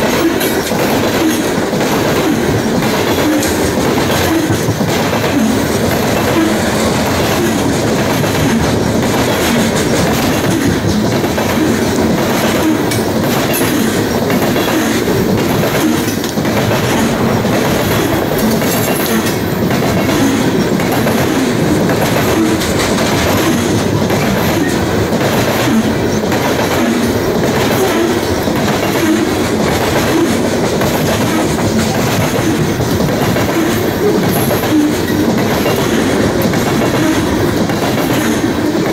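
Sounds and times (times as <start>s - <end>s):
train wheels rolling over rails: 0.0s - 38.9s.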